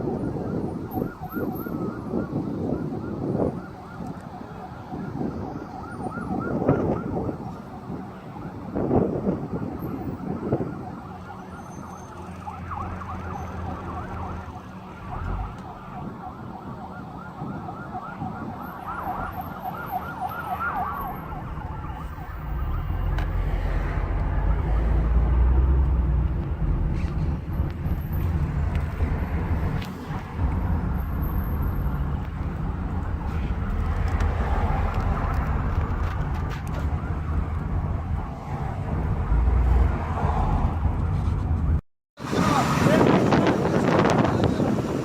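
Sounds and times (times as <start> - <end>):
emergency sirens wailing: 0.0 - 45.0.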